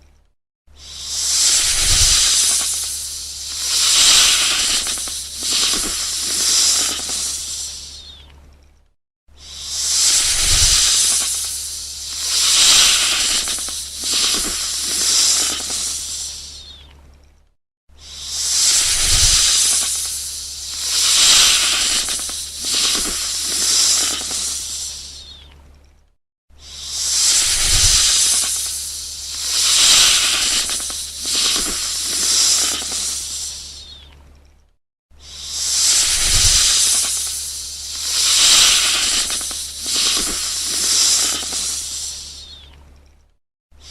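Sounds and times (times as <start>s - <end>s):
snake hissing: 0.7s - 8.2s, 9.3s - 16.8s, 17.9s - 25.4s, 26.6s - 34.0s, 35.2s - 42.7s.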